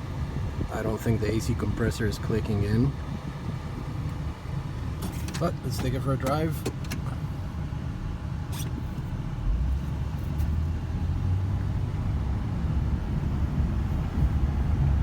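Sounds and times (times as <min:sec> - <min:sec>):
truck engine drone: 0:00.0 - 0:15.0.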